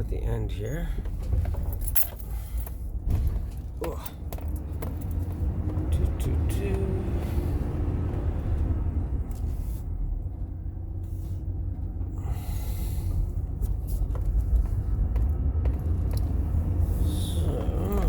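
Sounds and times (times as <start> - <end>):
tyres on road: 0.0 - 18.0
van engine rumble: 0.0 - 18.0.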